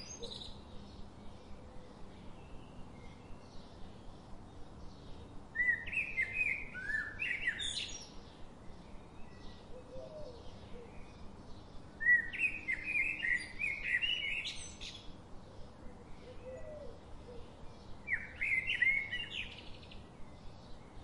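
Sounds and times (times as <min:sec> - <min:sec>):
faint outdoor background noise: 0:00.0 - 0:21.0
songbird chirping: 0:00.0 - 0:21.0.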